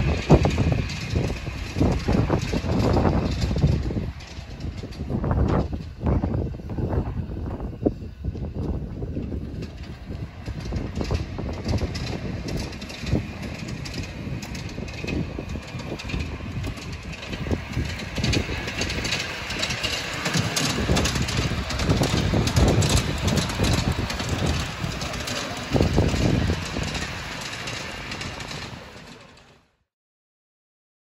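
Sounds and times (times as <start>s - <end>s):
miniature steam locomotive clattering: 0.0s - 29.8s.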